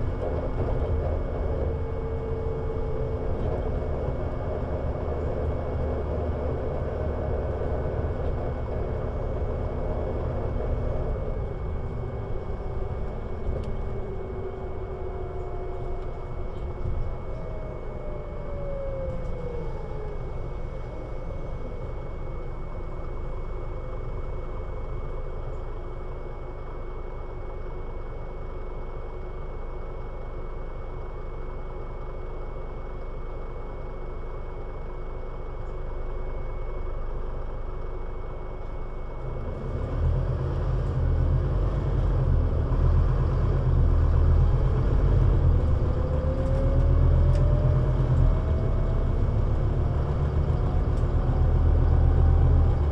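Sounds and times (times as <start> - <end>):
bus drivetrain whine: 0.0 - 52.9
bus engine running: 0.0 - 52.9.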